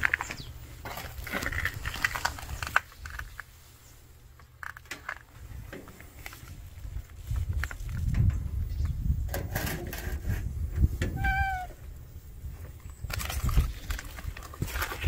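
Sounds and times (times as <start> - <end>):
wind rumbling on microphone: 0.0 - 3.6, 5.2 - 15.0.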